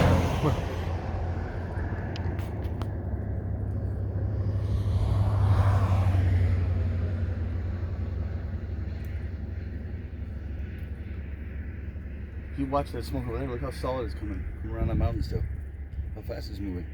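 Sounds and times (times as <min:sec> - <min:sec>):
low vehicle engine rumble: 0:00.0 - 0:16.9.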